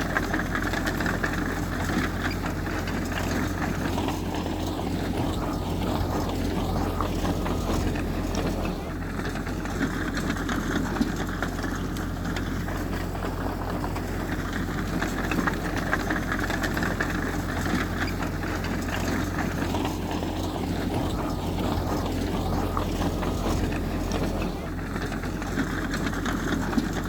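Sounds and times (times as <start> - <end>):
heavy diesel machinery droning: 0.0 - 27.0.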